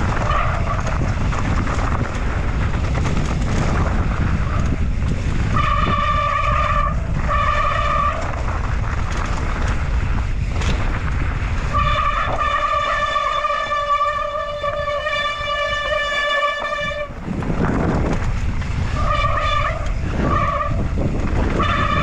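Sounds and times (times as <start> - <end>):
wind and bike rumble: 0.0 - 22.0.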